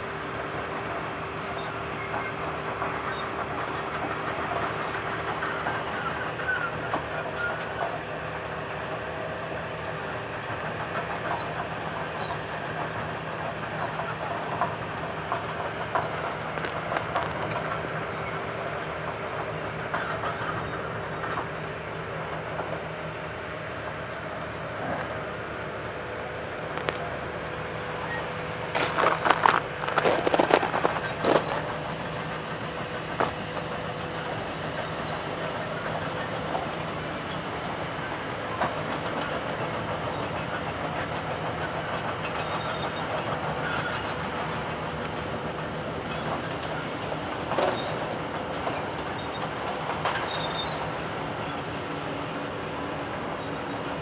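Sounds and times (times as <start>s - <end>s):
demolition machinery humming: 0.0s - 54.0s.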